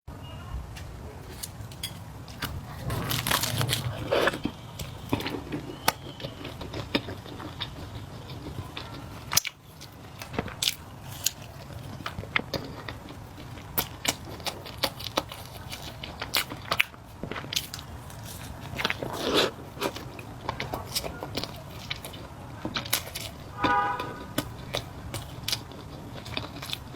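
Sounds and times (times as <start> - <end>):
chewing noodles: 1.2 - 26.9.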